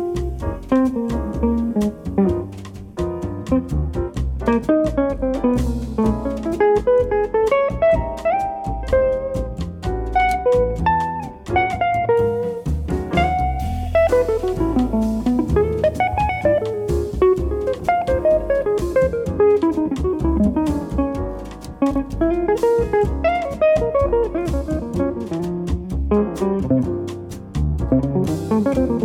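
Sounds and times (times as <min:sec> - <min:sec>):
bass: 0:00.0 - 0:29.0
drum kit with cymbals: 0:00.0 - 0:29.0
jazz guitar solo: 0:00.0 - 0:29.0.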